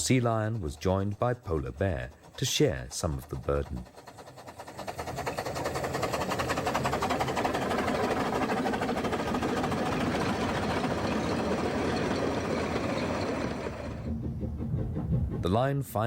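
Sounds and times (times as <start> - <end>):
small train running rhythmically: 0.0 - 16.0.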